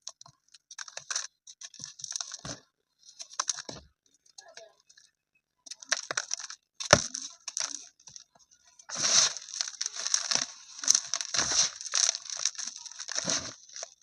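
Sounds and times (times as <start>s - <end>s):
cement chunks crumbling: 0.0s - 3.9s, 5.7s - 14.0s.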